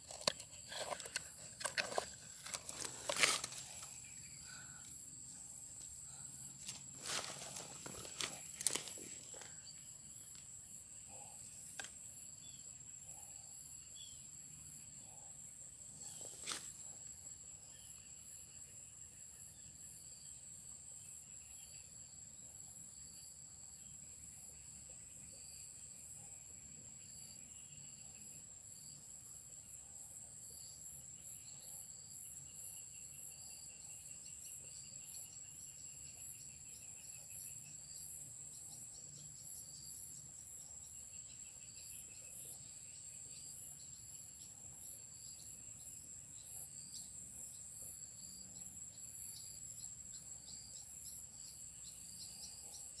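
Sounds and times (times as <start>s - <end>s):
insects trilling: 0.0s - 53.0s.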